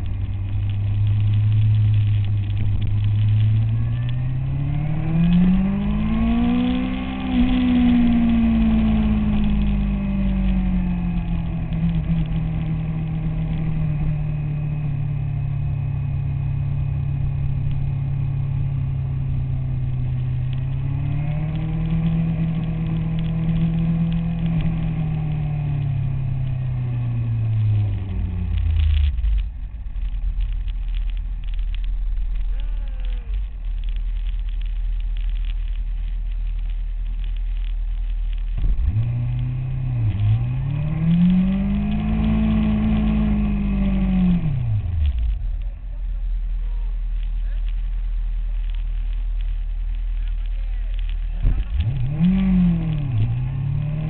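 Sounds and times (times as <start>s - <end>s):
motorcycle engine revving: 0.0s - 35.8s, 36.6s - 54.0s.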